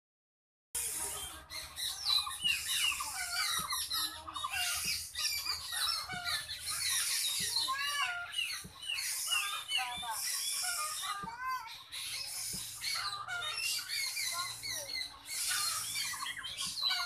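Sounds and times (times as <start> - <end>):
many birds chirping: 0.8 - 17.0.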